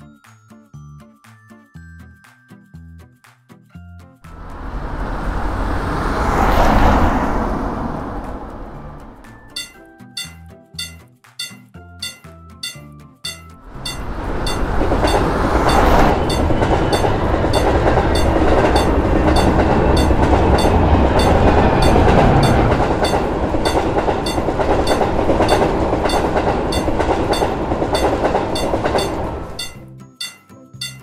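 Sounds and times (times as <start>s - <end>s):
crossing warning bell dinging: 4.3s - 31.0s
train rolling clickety-clack: 4.3s - 31.0s.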